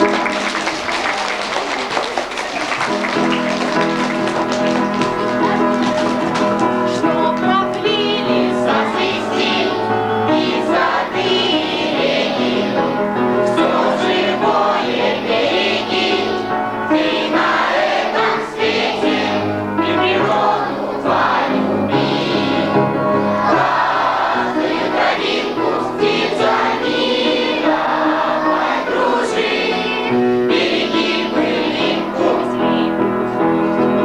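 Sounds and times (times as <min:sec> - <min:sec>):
instrumental accompaniment: 0:00.0 - 0:34.0
group of voices singing: 0:03.0 - 0:34.0.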